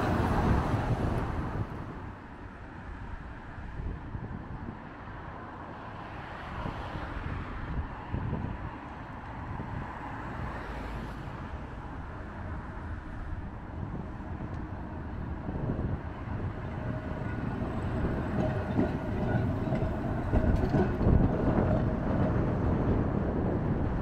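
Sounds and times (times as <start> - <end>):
wind buffeting microphone: 0.0 - 5.3, 6.4 - 10.5, 11.4 - 24.0
tram running on rails: 0.0 - 24.0.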